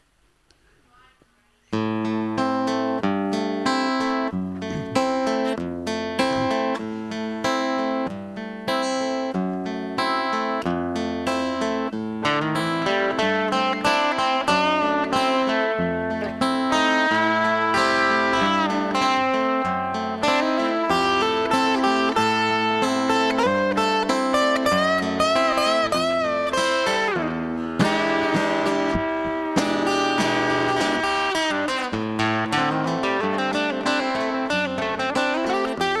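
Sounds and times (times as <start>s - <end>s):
acoustic guitar playing: 1.7s - 36.0s.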